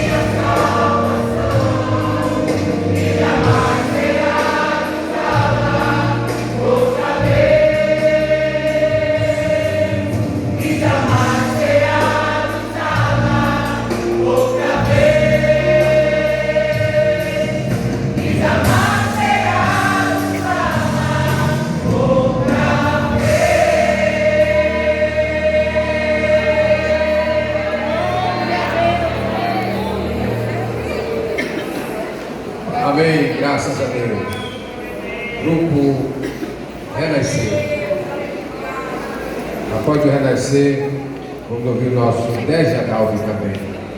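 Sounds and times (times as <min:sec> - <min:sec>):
gospel choir singing: 0:00.0 - 0:36.4.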